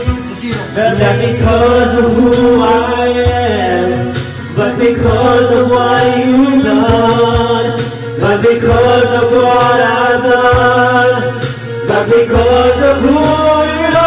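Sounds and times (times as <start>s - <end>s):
karaoke backing track: 0.0s - 14.0s
men singing into microphones: 0.0s - 14.0s.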